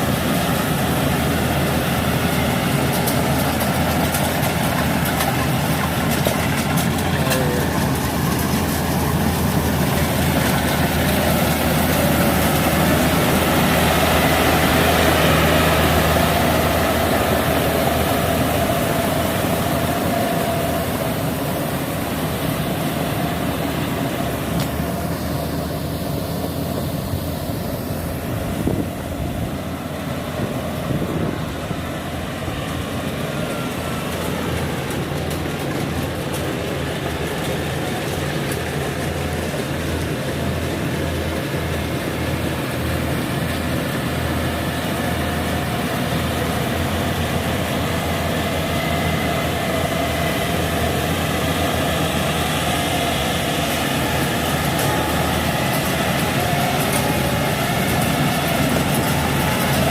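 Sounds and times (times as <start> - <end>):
combine harvester droning: 0.0 - 59.9.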